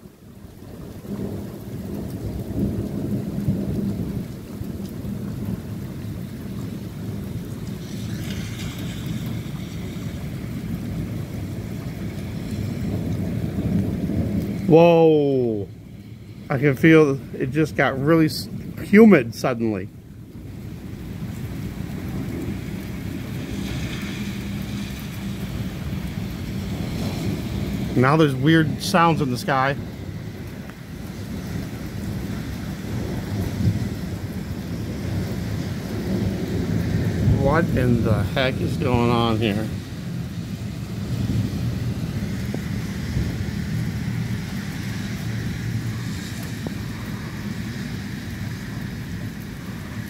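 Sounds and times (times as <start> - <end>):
rain: 0.0 - 50.0
thunder rumbling: 0.0 - 50.0.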